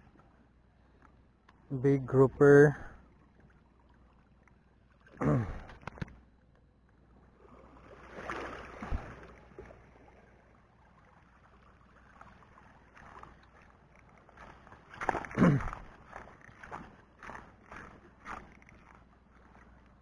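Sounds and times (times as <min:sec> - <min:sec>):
water sloshing at shore: 0:00.0 - 0:20.0.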